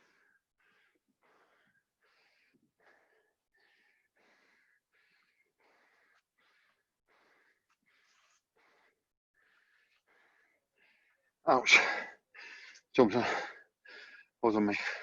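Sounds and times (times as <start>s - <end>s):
man breathing heavily: 0.0s - 15.0s.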